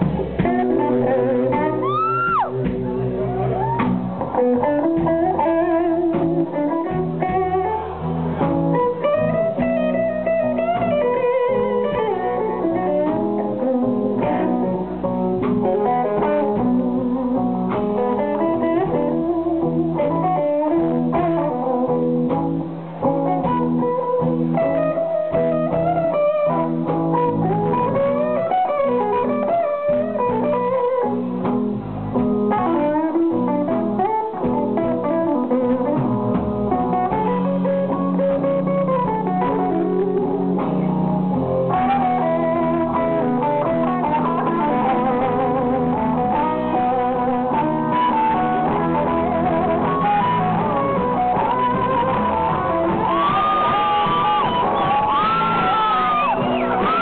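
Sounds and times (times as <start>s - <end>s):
drums: 0.0s - 57.0s
electric guitar lead lines: 0.0s - 57.0s.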